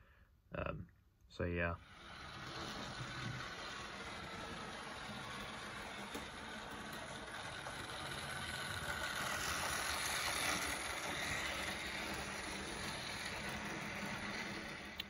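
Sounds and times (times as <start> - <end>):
model train running on track: 1.8 - 15.0.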